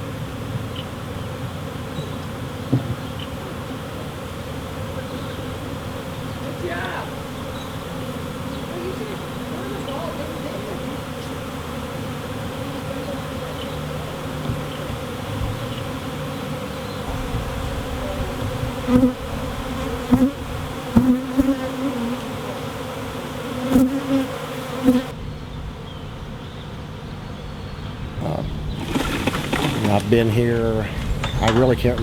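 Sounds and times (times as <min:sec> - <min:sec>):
single bees flying close by: 0:00.0 - 0:32.0
swarm of bees buzzing: 0:00.0 - 0:32.0.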